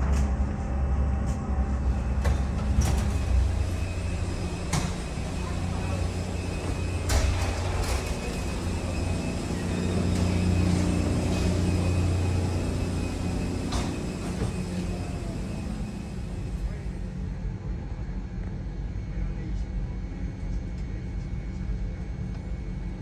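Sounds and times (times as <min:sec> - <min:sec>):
aircraft cabin ventilation hum: 0:01.1 - 0:23.0.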